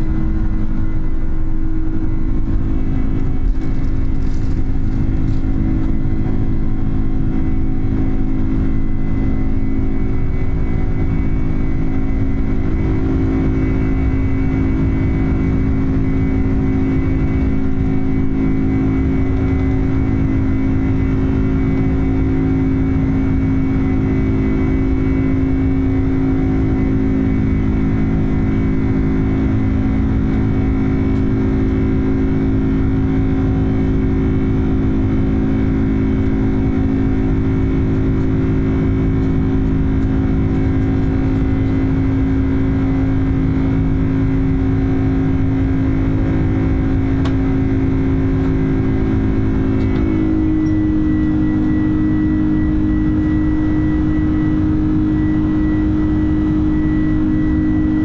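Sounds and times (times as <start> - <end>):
high whine: 0.0 - 58.0
jet engines droning: 0.0 - 58.0.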